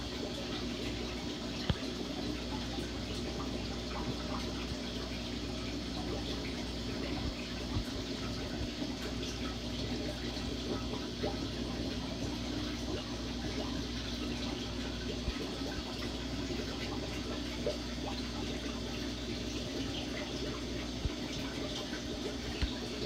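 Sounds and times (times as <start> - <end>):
constant low hum: 0.0 - 23.0
water trickling and splashing: 0.0 - 23.0.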